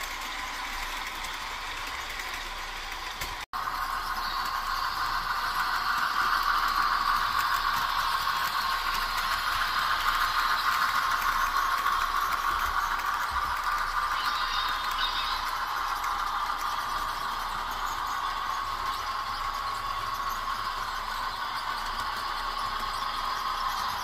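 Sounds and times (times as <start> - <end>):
model locomotive rattling whir: 0.0 - 24.0.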